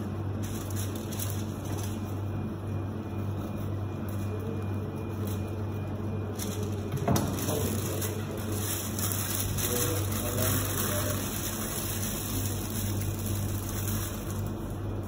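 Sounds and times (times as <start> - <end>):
steady low hum: 0.0 - 15.0
paper rustling: 0.3 - 2.2, 4.0 - 15.0.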